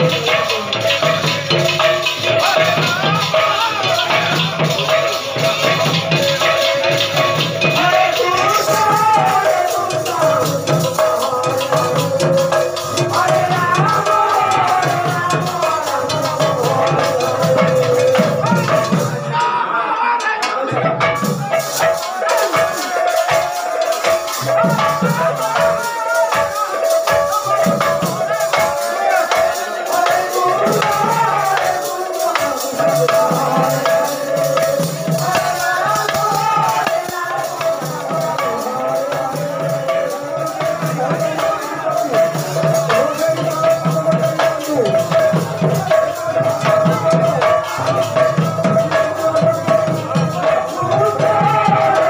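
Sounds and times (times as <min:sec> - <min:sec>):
rattling and jingling percussion: 0:00.0 - 0:19.6, 0:20.4 - 0:52.0.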